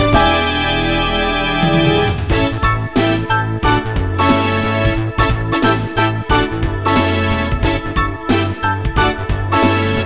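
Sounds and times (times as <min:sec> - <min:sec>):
keyboard melody with bass and beat: 0:00.0 - 0:10.0.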